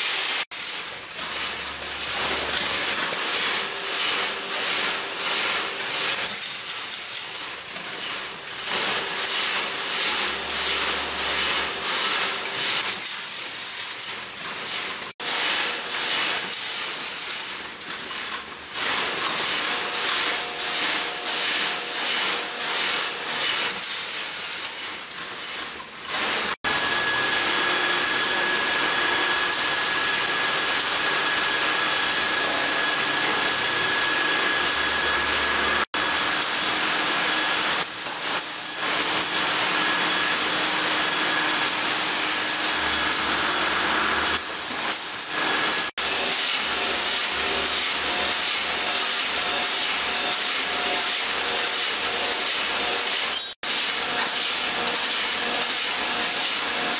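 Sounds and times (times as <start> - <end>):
packaging machinery whirring: 0.1 - 56.9.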